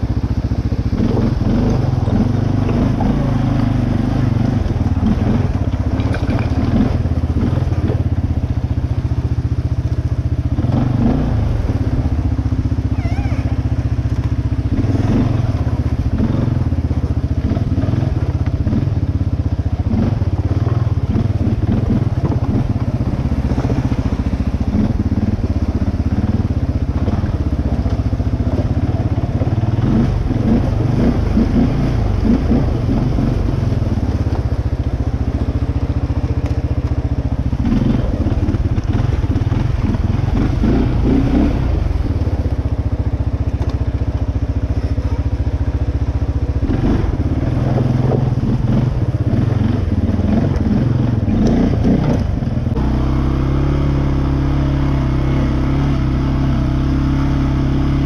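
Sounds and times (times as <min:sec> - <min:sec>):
atv engine running: 0:00.0 - 0:58.0
tyres through shallow water: 0:00.0 - 0:58.0.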